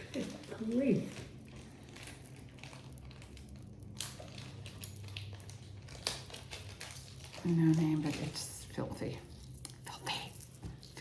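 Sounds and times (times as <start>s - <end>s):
jewelry clicking and rustling: 0.0s - 11.0s
low steady hum: 0.0s - 11.0s.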